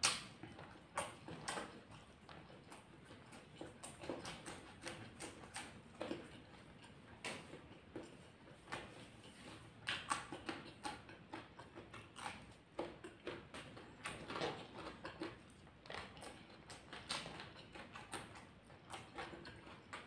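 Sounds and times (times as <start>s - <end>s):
close chewing crunches: 0.0s - 20.0s.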